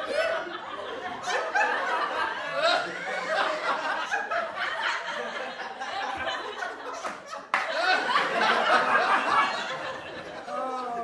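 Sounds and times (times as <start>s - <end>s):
group of people laughing: 0.0s - 11.0s.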